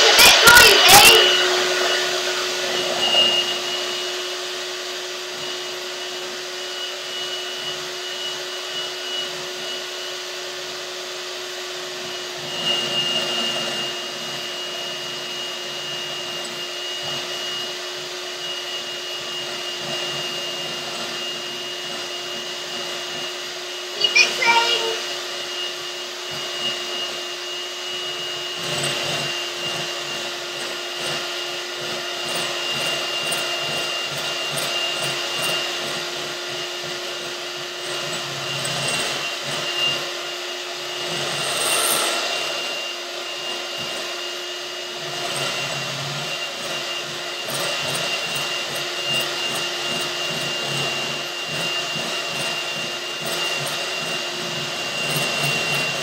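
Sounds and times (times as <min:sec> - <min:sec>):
electric hand mixer whipping cream: 0:00.0 - 0:56.0.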